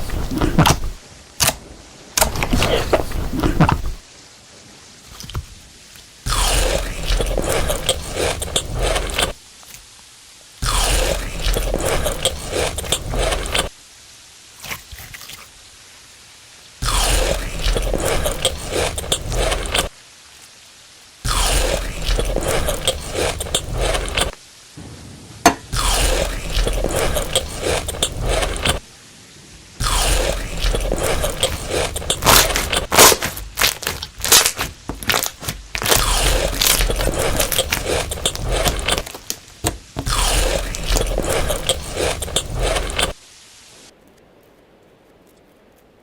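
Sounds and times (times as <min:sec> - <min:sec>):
crunching crispy food: 0:00.0 - 0:04.1, 0:05.0 - 0:09.9, 0:10.6 - 0:13.8, 0:14.5 - 0:15.6, 0:16.8 - 0:24.5, 0:25.6 - 0:28.9, 0:29.8 - 0:43.3.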